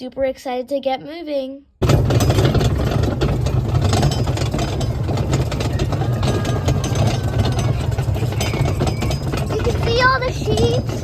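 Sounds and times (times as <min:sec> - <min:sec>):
barrels rattling and knocking: 0:01.8 - 0:11.0
engine running steadily: 0:01.8 - 0:11.0.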